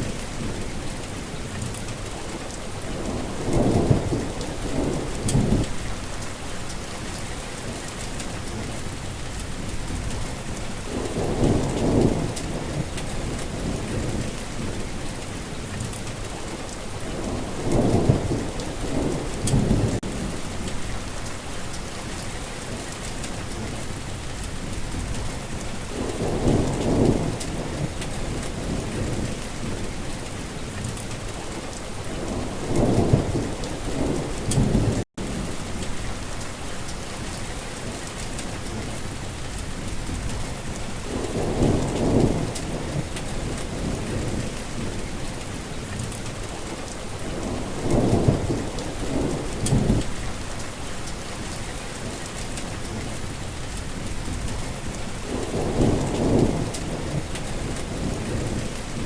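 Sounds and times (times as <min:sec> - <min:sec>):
heavy rain falling: 0:00.0 - 0:59.0
thunder rumbling: 0:01.8 - 0:07.2, 0:08.3 - 0:15.0, 0:16.8 - 0:22.2, 0:23.0 - 0:30.1, 0:30.9 - 0:59.0.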